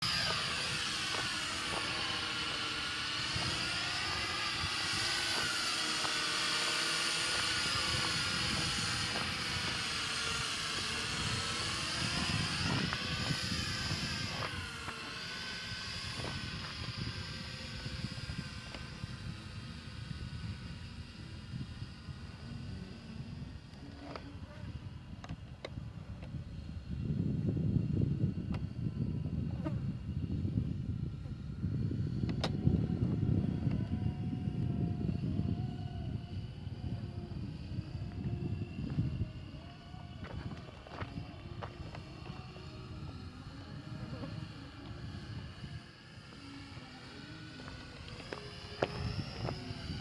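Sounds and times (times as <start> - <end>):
remote-controlled aircraft motor whine: 0.0 - 50.0
wind buffeting microphone: 0.0 - 50.0.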